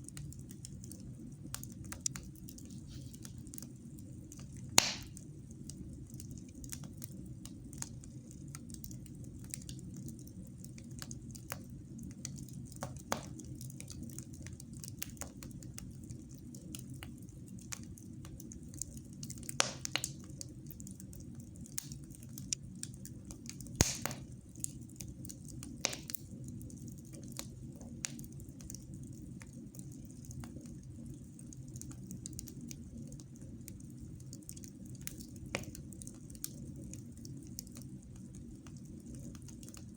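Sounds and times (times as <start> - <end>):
fire burning in fireplace: 0.0 - 39.9
fire crackles and pops: 0.0 - 39.9.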